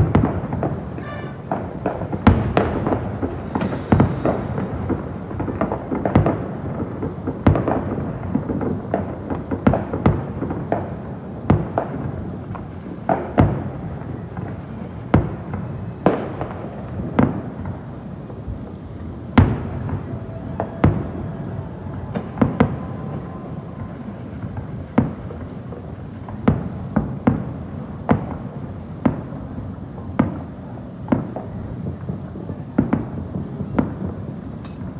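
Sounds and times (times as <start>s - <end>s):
fireworks bangs: 0.0s - 34.9s.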